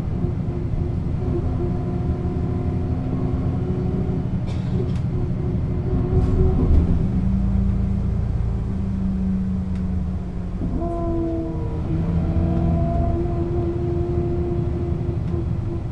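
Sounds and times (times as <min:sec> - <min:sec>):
bus engine running: 0:00.0 - 0:15.9.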